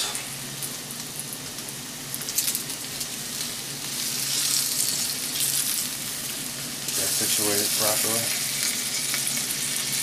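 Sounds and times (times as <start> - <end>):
steaks sizzling in a pan: 0.1 - 10.0.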